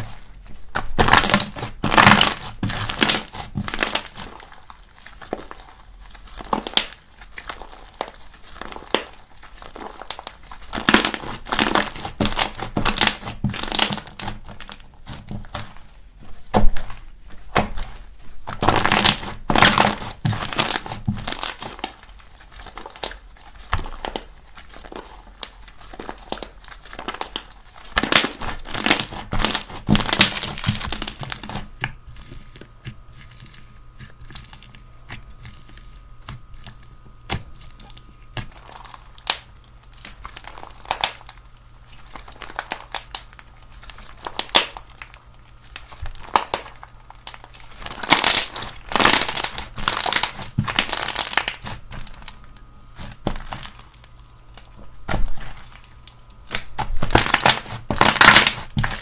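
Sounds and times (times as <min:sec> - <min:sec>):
slime crackling and popping: 0:00.0 - 0:59.0.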